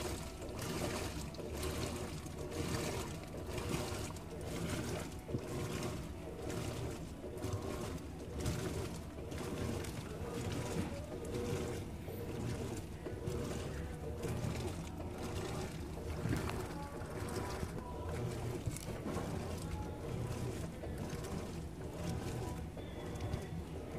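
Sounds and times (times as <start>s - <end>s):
washing machine water sloshing: 0.0s - 23.9s.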